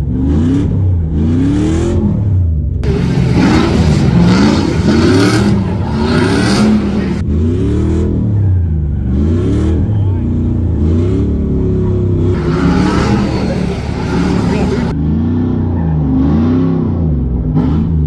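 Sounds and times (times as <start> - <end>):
car engine revving: 0.0 - 8.2, 8.9 - 15.4.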